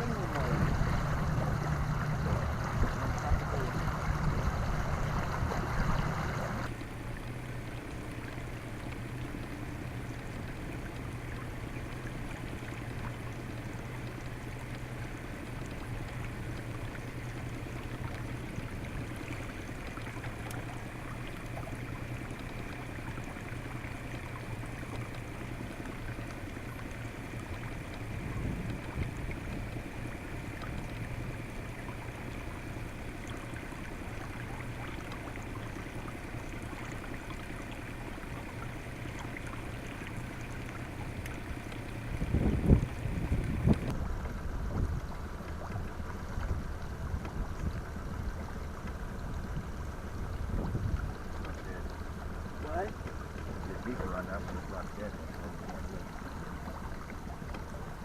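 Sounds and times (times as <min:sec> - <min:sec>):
boat motor humming: 0:00.0 - 0:58.0
water sloshing against hull: 0:00.0 - 0:58.0.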